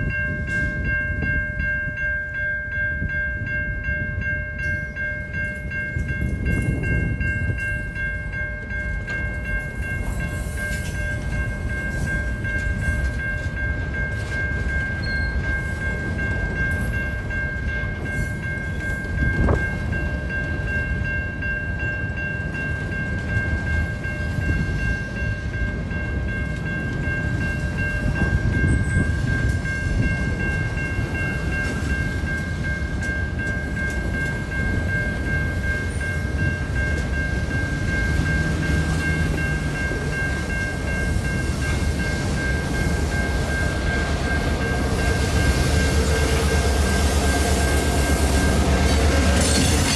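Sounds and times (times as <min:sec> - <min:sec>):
train rumbling past: 0:00.0 - 0:49.9.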